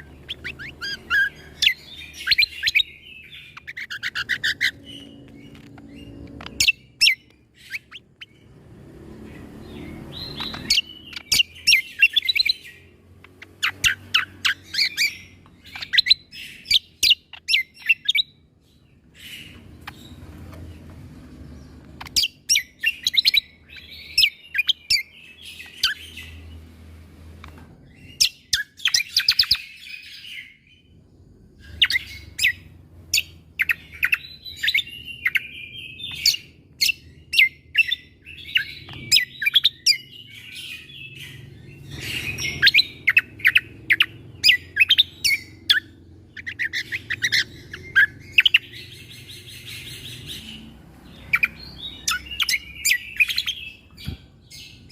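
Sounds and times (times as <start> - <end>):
bird chirping and clicking: 0.0 - 30.4, 31.6 - 54.9.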